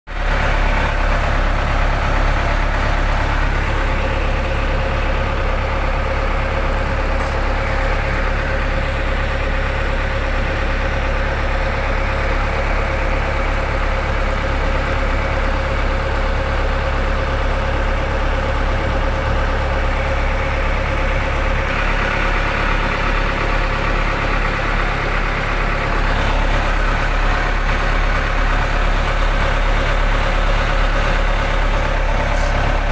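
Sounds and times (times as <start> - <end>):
boat engine droning: 0.1 - 32.9.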